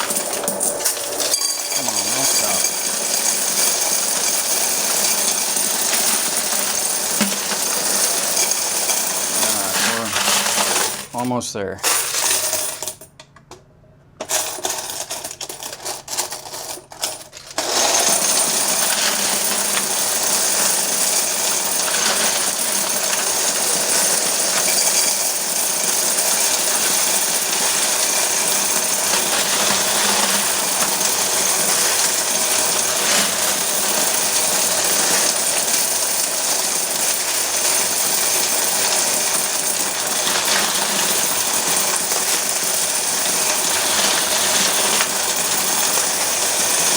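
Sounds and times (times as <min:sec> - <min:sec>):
coins rattling through coin counter: 0:00.0 - 0:13.1, 0:14.2 - 0:46.9.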